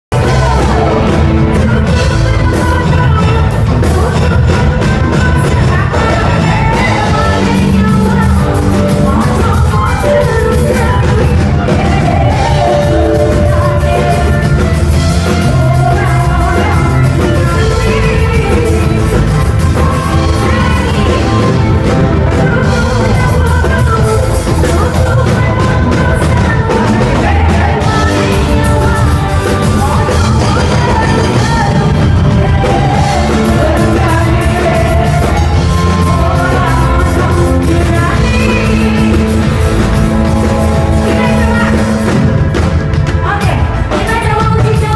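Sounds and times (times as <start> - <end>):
live band playing: 0.1 - 44.9
woman singing: 0.2 - 44.9.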